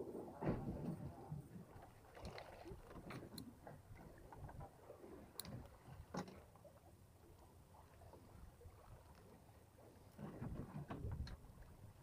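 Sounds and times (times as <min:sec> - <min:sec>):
faint water against boat hull: 0:00.0 - 0:12.0.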